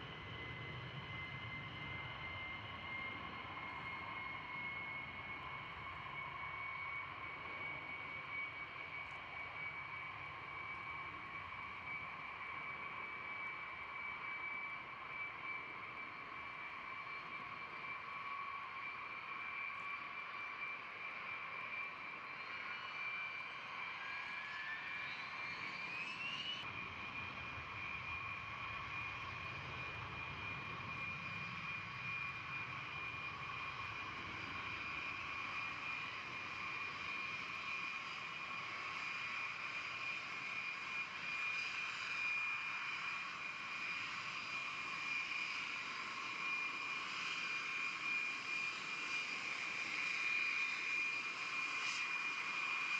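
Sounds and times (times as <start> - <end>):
jet engines whining: 0.0 - 52.9.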